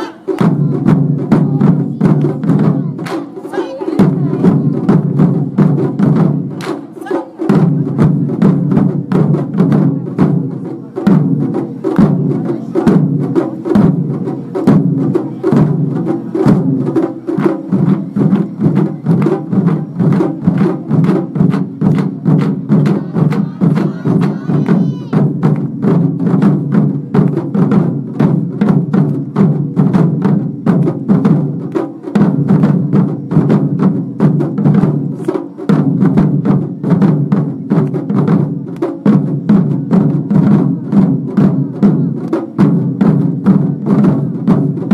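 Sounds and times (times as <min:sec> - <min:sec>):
taiko drums fast rhythm: 0:00.0 - 0:44.9.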